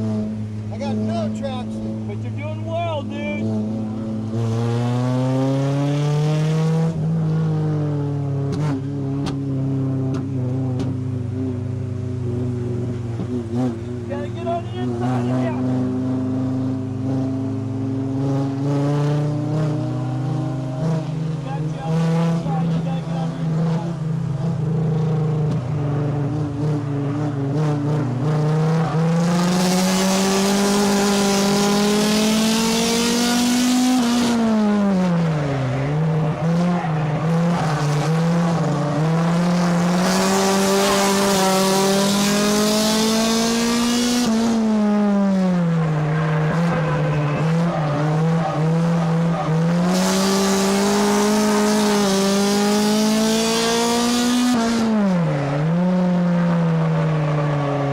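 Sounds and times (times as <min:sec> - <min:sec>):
race car engine: 0:00.0 - 0:57.9.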